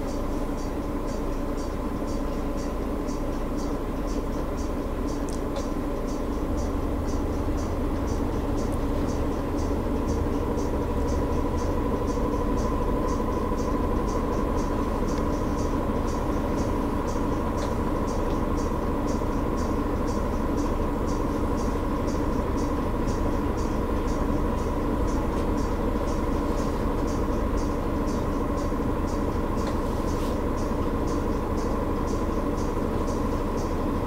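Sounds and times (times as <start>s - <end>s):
low rumble with hum: 0.0s - 34.0s.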